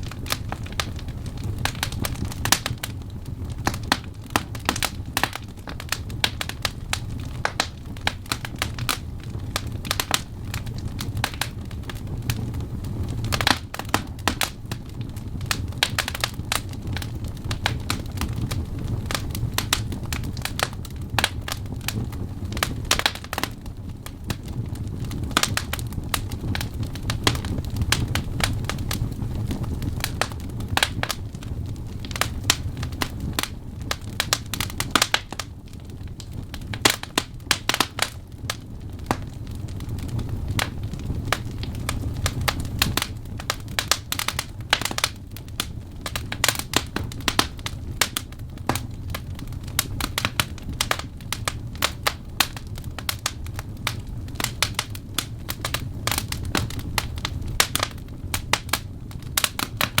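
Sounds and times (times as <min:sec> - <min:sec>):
logs crackling and popping: 0:00.0 - 1:00.0
low rumble of flames: 0:00.0 - 1:00.0.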